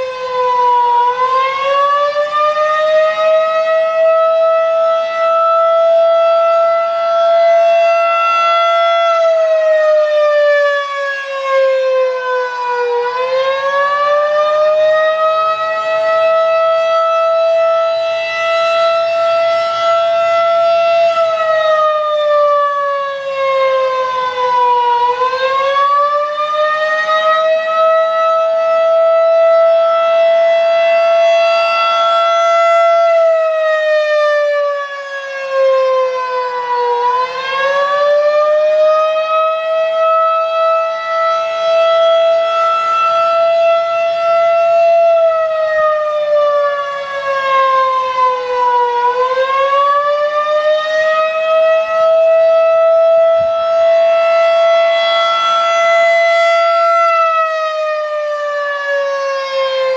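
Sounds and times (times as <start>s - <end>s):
outdoor warning siren: 0.0s - 59.9s.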